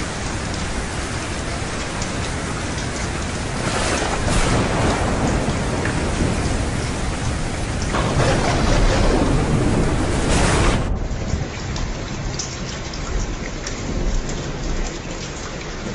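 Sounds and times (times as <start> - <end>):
thunder rumbling: 0.0 - 15.3
heavy rain: 0.0 - 15.9.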